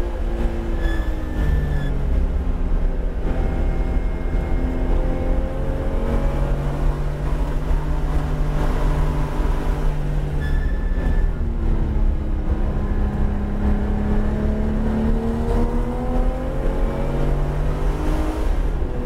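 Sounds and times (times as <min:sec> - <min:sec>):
car engine accelerating: 0:00.0 - 0:19.0
road and tyre rumble: 0:00.0 - 0:19.0.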